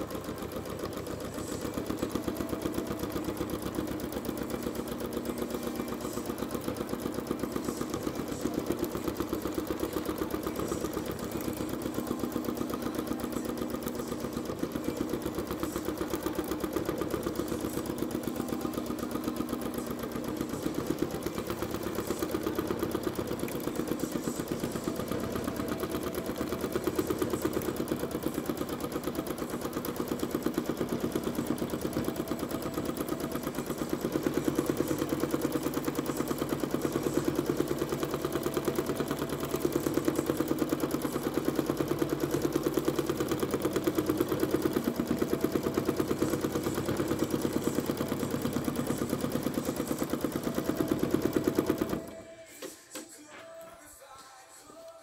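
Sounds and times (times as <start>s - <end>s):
sewing machine stitching: 0.0s - 53.6s
presser foot clatter: 0.0s - 53.7s.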